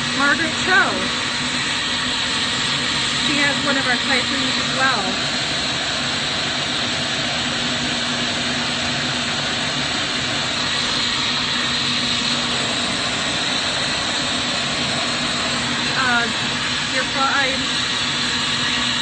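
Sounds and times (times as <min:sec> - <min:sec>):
torch flames roaring: 0:00.0 - 0:19.0
ventilation rushing: 0:00.0 - 0:19.0.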